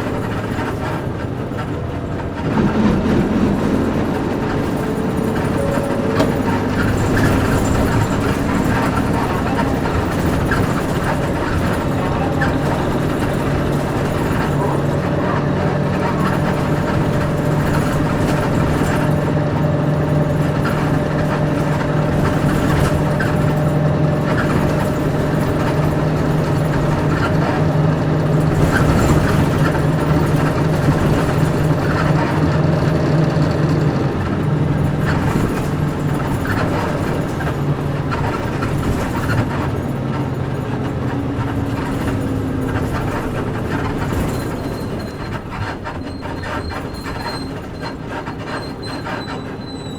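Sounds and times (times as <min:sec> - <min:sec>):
bus engine pulling under load: 0:00.0 - 0:49.9
road noise: 0:00.0 - 0:49.9.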